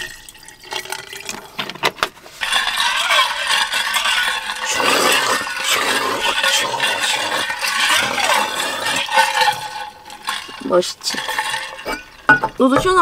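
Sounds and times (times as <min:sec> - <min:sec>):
plastic bottle crackling: 0:00.0 - 0:13.0
ice rattling in a shaken jug: 0:02.3 - 0:13.0.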